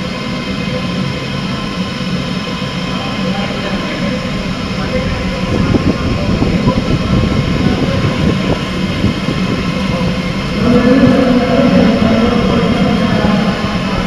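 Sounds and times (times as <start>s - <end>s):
humming tone: 0.0s - 14.0s.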